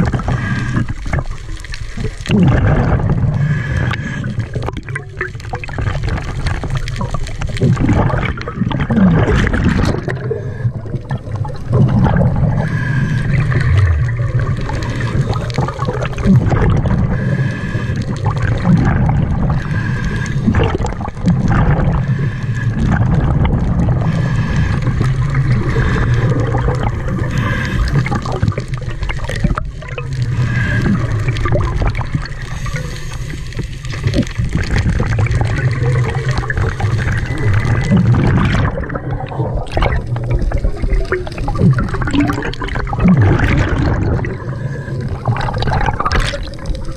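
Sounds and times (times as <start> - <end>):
bubbles gurgling underwater: 0.0 - 46.9
low rumble: 0.0 - 46.9.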